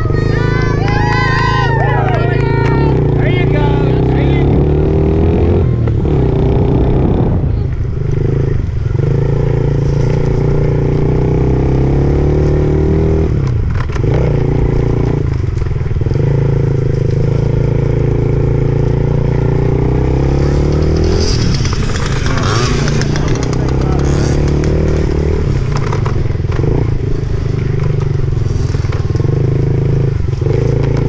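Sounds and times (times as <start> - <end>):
dirt bike engine running hard: 0.0 - 31.0.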